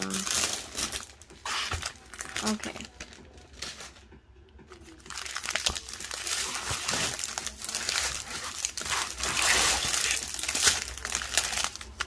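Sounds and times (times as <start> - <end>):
plastic bags crinkling: 0.0 - 4.0, 4.9 - 12.0.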